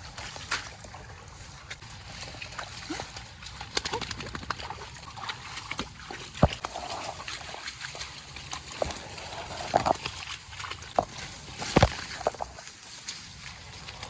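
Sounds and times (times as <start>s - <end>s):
water splashing in marsh: 0.0s - 14.0s.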